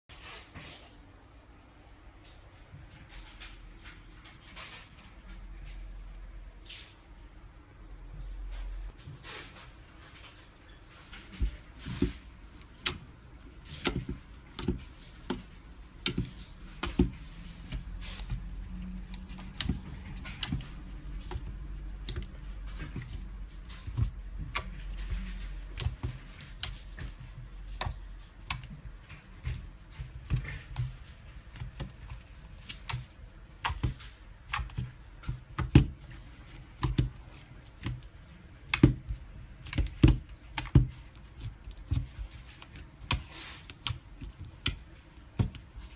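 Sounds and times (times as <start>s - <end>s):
low rumble of handling: 1.7s - 45.9s.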